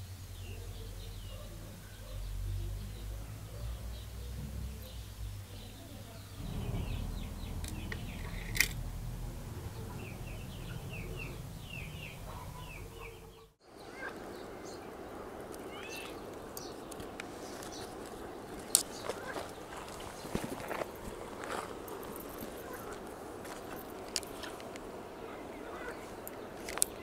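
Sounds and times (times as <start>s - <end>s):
outdoor hiss: 0.0s - 27.0s
small birds chirping: 0.0s - 27.0s.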